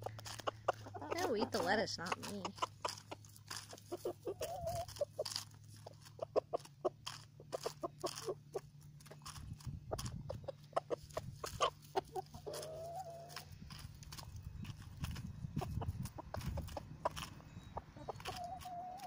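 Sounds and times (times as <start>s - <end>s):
roosters clucking: 0.0s - 19.0s.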